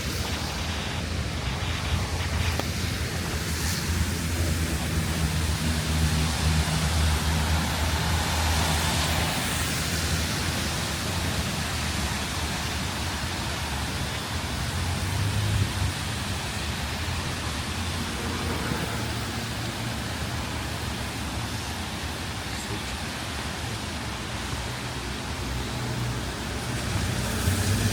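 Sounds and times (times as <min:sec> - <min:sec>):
passing vehicle engine hum: 0:00.0 - 0:12.3, 0:14.4 - 0:22.0, 0:24.1 - 0:27.9
rain hissing: 0:00.0 - 0:27.9
street traffic: 0:00.0 - 0:27.9.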